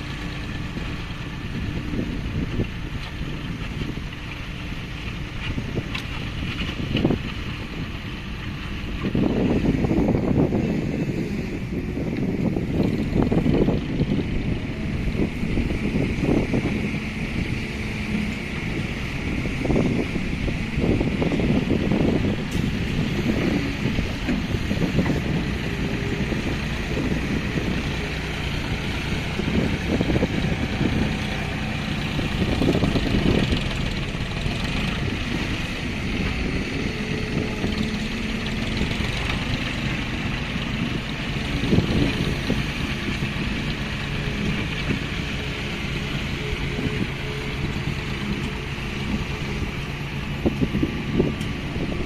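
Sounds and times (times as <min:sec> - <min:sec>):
diesel engine of heavy machinery: 0:00.0 - 0:52.0.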